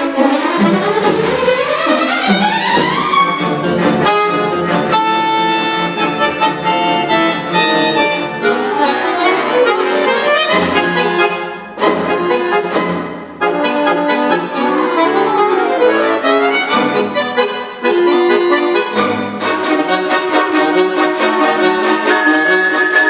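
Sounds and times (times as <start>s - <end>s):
accordion with orchestra: 0.0s - 23.0s.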